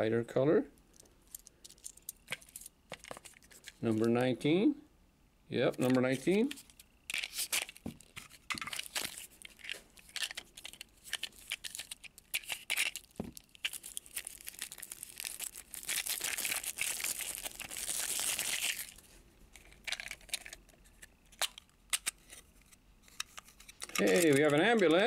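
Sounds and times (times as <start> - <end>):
toy wrapping rustling and tearing: 0.9 - 4.2, 5.8 - 25.0.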